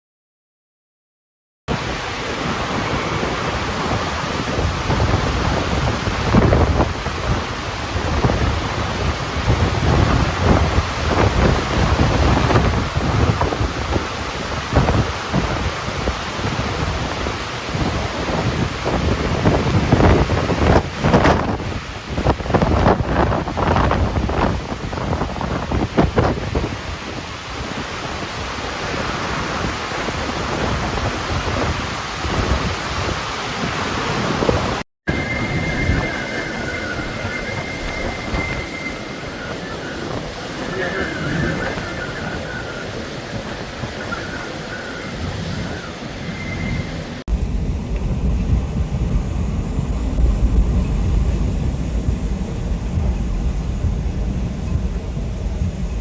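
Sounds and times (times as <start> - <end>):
heavy rain: 1.7 - 56.0
storm wind: 1.7 - 56.0.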